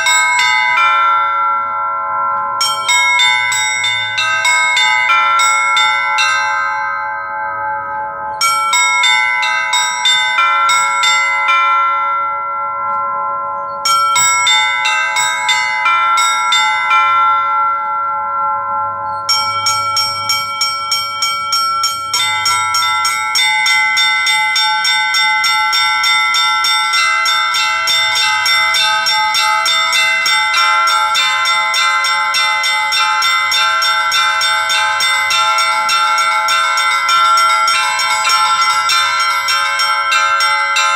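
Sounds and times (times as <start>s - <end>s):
large bells humming: 0.0s - 40.9s
small high church bells: 0.0s - 40.9s.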